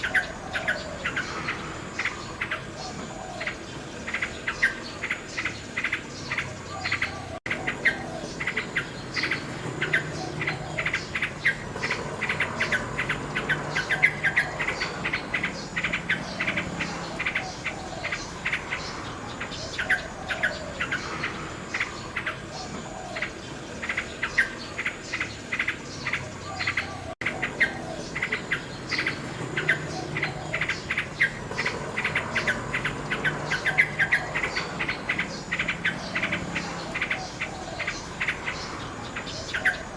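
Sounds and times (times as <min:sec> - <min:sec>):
insects chirping: 0:00.0 - 0:39.9
nightingale singing: 0:00.0 - 0:39.9.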